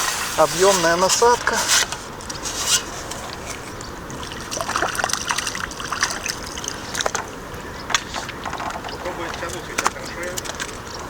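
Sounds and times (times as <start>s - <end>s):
steady rushing water: 0.0s - 11.0s
water splashing and lapping: 0.0s - 11.0s.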